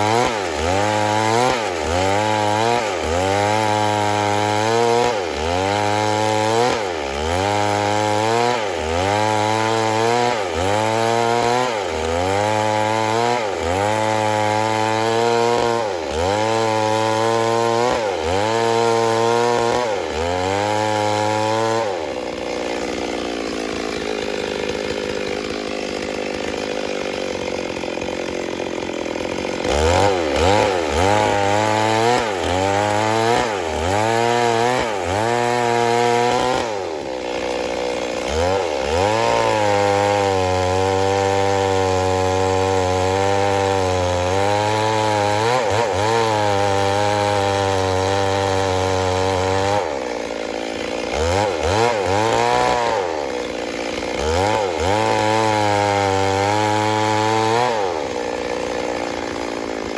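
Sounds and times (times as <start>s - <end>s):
chainsaw engine running: 0.0s - 59.9s.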